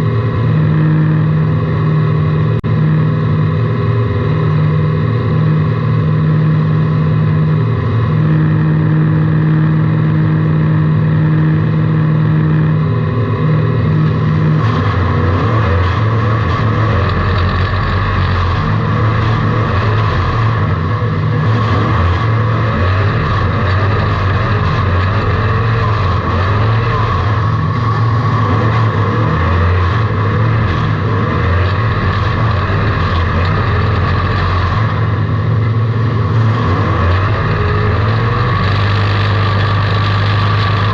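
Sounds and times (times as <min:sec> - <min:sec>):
car engine running: 0:00.0 - 0:40.9
noisy clatter: 0:00.0 - 0:40.9.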